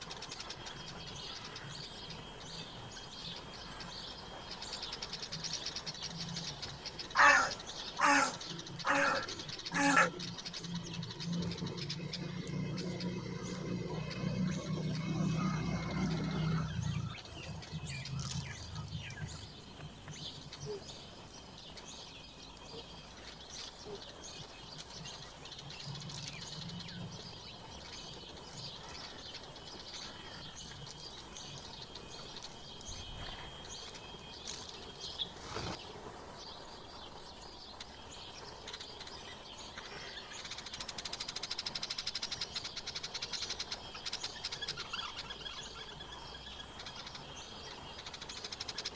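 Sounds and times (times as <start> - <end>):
rapid high bird chatter: 0.0 - 35.8, 37.7 - 48.9
songbirds chirping: 0.0 - 48.9.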